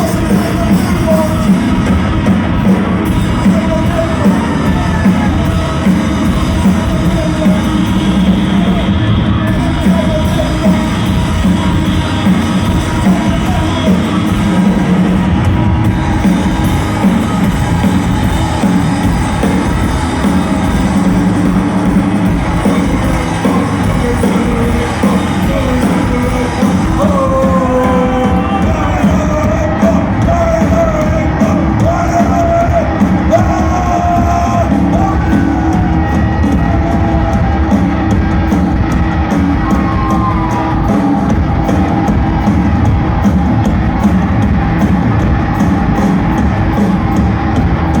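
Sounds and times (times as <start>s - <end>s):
bass: 0.0s - 48.0s
heavy drums: 0.0s - 48.0s
rock band playing distorted music: 0.0s - 48.0s.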